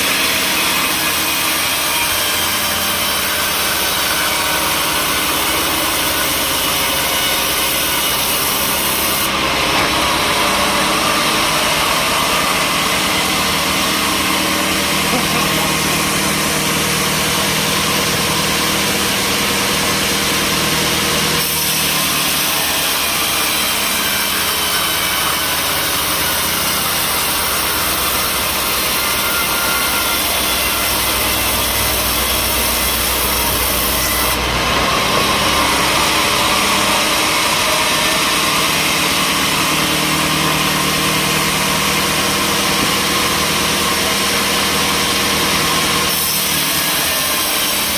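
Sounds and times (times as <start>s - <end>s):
saw cutting timber: 0.0s - 47.9s
steady engine drone: 3.6s - 46.7s.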